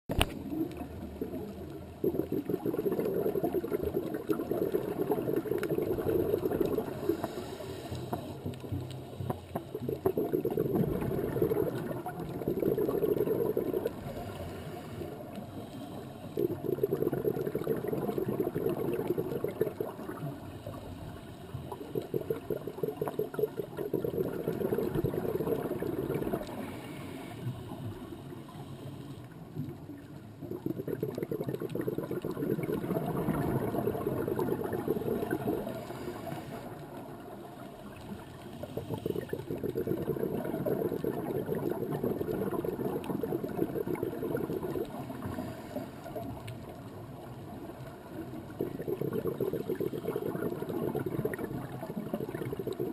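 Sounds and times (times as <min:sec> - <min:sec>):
underwater bubbling: 0:00.0 - 0:52.9.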